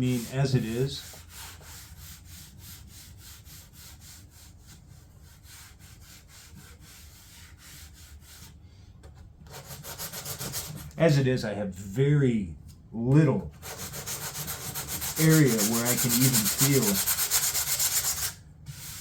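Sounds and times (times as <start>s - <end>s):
sandpaper rubbing on panel: 0.0s - 8.6s, 9.5s - 10.9s, 13.6s - 19.0s.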